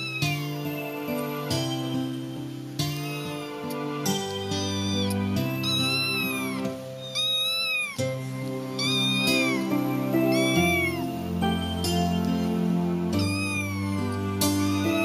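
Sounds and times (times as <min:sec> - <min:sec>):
kitten meowing: 0:00.0 - 0:01.0, 0:02.8 - 0:15.0
soft background music: 0:00.0 - 0:15.0.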